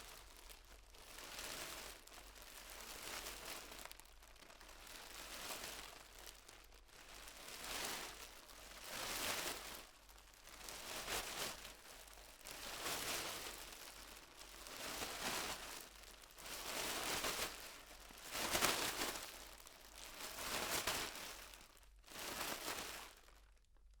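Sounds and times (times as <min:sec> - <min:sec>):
plastic bag crinkling: 0:00.0 - 0:23.6.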